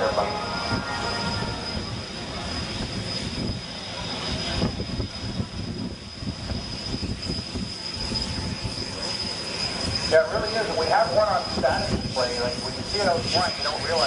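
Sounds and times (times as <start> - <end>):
jet engines rushing and rumbling: 0.0 - 14.0.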